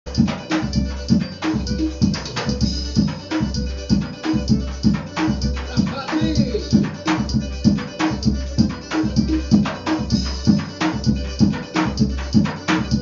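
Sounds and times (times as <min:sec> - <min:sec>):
bass drum groove: 0:00.1 - 0:13.0.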